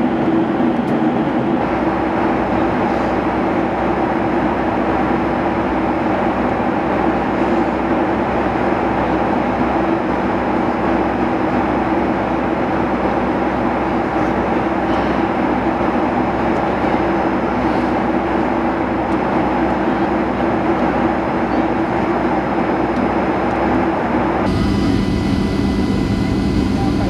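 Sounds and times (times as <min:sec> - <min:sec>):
airliner cabin engine drone: 0:00.0 - 0:27.0.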